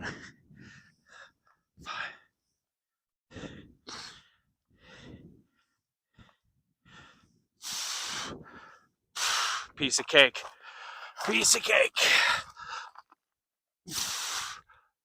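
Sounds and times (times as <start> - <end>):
man breathing hard: 0.0 - 2.6, 3.3 - 9.8, 10.4 - 11.3, 12.0 - 13.2, 13.9 - 15.0.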